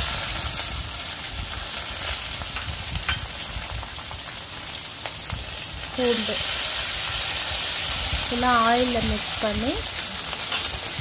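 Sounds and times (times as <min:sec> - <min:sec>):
frying in hot oil sizzling: 0:00.0 - 0:11.0.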